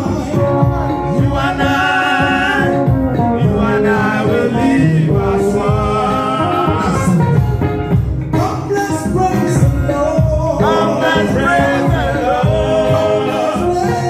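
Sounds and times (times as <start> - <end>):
song with sung vocal: 0.0 - 14.0.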